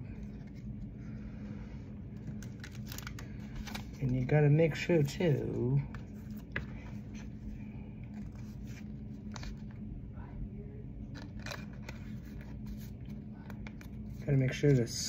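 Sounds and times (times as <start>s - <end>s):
steady low hum: 0.0s - 15.0s
card sleeves rustling: 0.1s - 9.8s, 11.1s - 15.0s.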